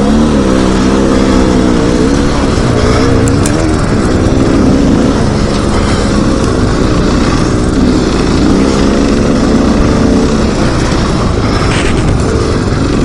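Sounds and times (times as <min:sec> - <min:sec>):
dirt bike engine revving: 0:00.0 - 0:13.0
wind noise on microphone: 0:01.0 - 0:13.0.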